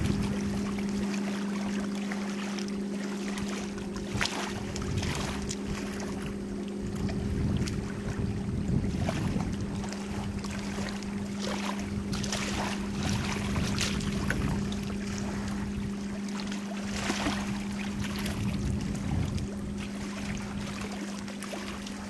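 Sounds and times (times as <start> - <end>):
wind rumble on microphone: 0.0 - 1.8, 3.3 - 22.0
steady low hum: 0.0 - 22.0
waves lapping in shallow water: 0.0 - 22.0.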